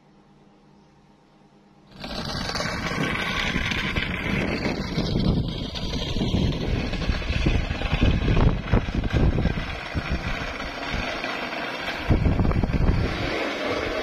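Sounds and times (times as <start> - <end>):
wind buffeting microphone: 2.0 - 11.2, 11.9 - 14.0.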